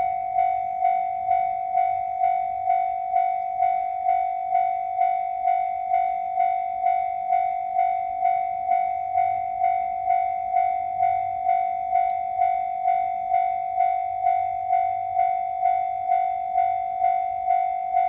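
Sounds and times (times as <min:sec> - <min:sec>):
level crossing alarm dinging: 0:00.0 - 0:18.0.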